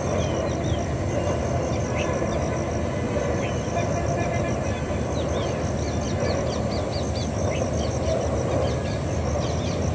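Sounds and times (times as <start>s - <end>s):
birds calling: 0.0s - 2.6s, 3.3s - 9.9s
insects chirping: 0.0s - 9.9s
low outdoor rumble: 0.0s - 9.9s.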